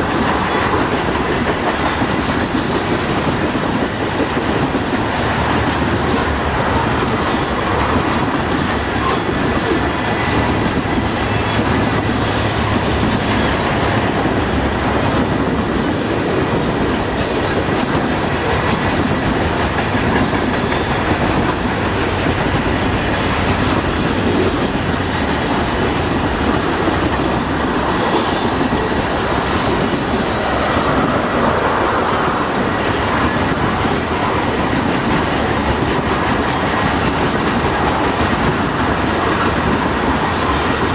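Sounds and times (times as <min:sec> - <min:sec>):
freight train cars rolling: 0:00.0 - 0:40.9
wheels clacking over rail joints: 0:00.0 - 0:40.9.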